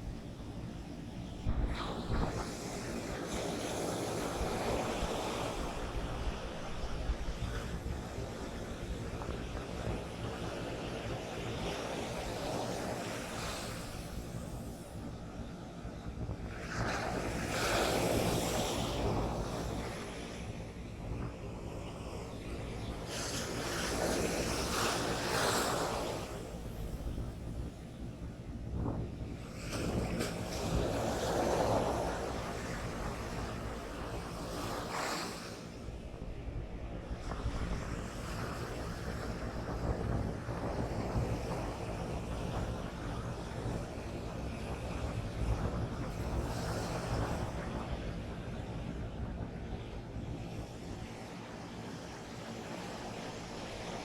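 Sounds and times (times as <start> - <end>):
surf washing on beach: 0.0 - 54.0
wind rumbling on microphone: 0.0 - 54.0.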